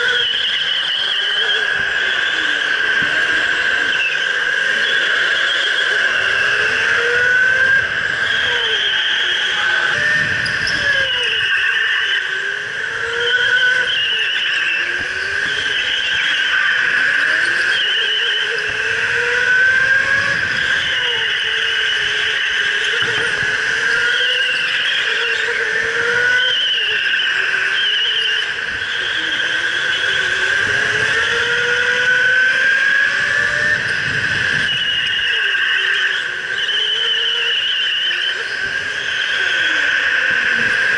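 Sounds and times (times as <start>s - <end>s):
electric go-kart motor whining: 0.0s - 40.9s
tyres squealing on concrete: 0.0s - 40.9s.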